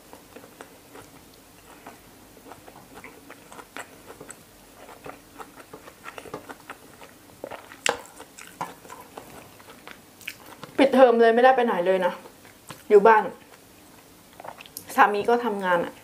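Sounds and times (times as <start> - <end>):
close-up chewing: 0.0 - 10.9, 12.2 - 14.9.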